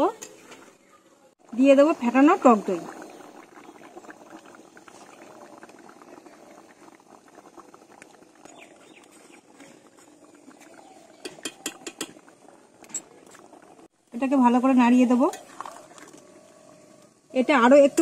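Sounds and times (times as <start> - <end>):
curry simmering in a pan: 0.2 - 18.0.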